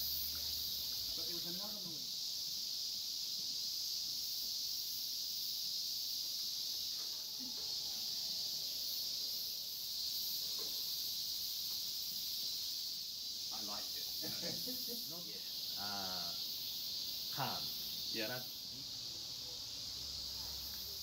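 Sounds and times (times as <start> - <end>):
insect chorus shrilling: 0.0 - 21.0.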